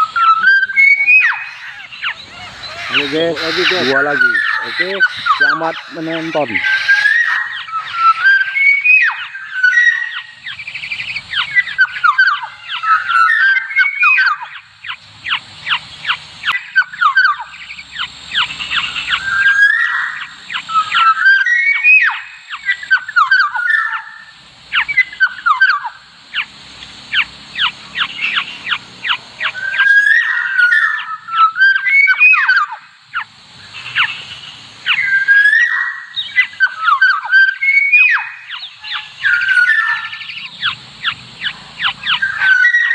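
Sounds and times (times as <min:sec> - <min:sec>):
harsh rasping bird chatter: 0:00.0 - 0:42.9
orioles whistled calls: 0:00.0 - 0:42.9.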